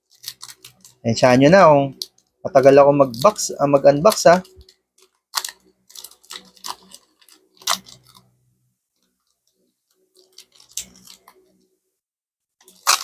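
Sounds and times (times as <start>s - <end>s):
trading cards and wrapper crinkling: 0.0s - 8.3s, 9.0s - 11.7s, 12.6s - 13.0s.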